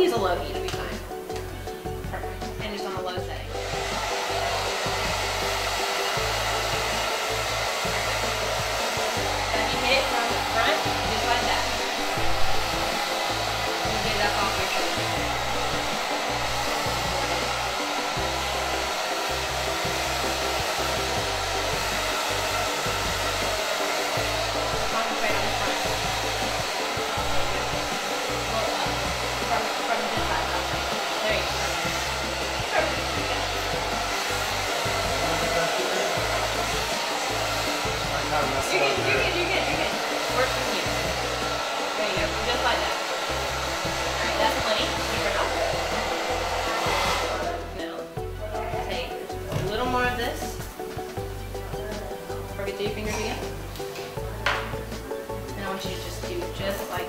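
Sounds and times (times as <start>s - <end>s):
hair dryer blowing: 0.0s - 51.4s, 52.1s - 57.0s.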